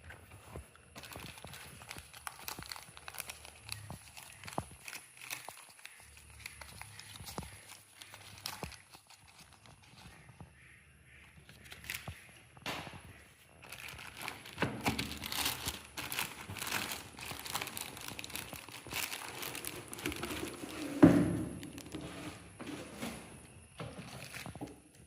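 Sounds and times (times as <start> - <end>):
packaging crinkling and rustling: 0.0 - 10.3, 13.4 - 25.0.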